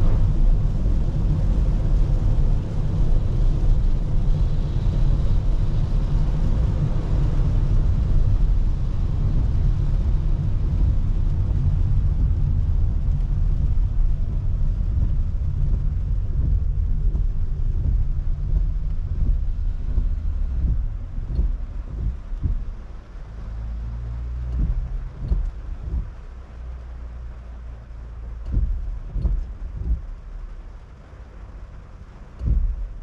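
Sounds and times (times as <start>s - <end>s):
hiss of spray and rain: 0.0s - 33.0s
tyre noise on wet road: 0.0s - 33.0s.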